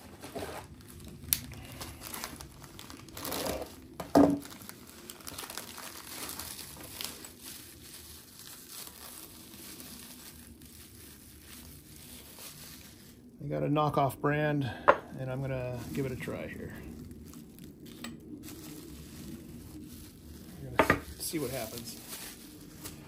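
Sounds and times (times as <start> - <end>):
packaging crinkling: 0.0 - 13.4, 15.3 - 23.0.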